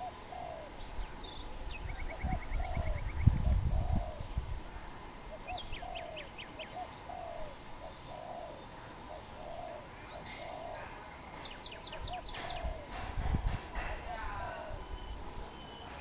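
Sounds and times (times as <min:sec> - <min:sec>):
dove cooing: 0:00.0 - 0:04.6, 0:05.3 - 0:15.3
small birds chirping: 0:00.0 - 0:16.0.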